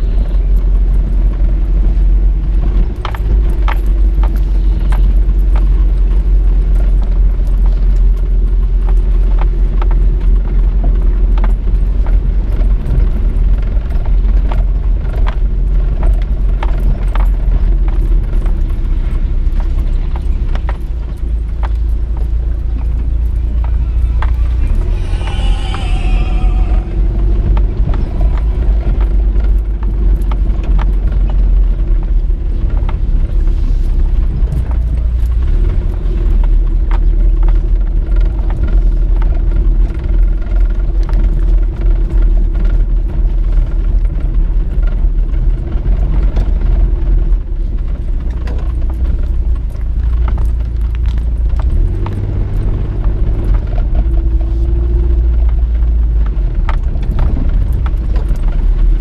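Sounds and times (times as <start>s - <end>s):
vehicle on rough road: 0.0s - 59.0s.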